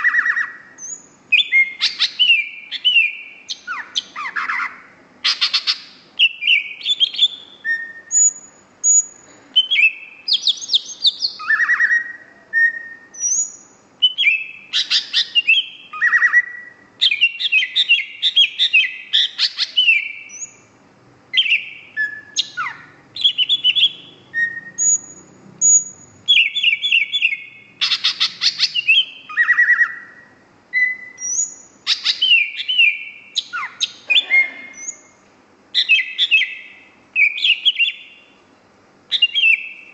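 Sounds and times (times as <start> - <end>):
bird singing trills and whistles: 0.0 - 38.4, 39.1 - 39.9.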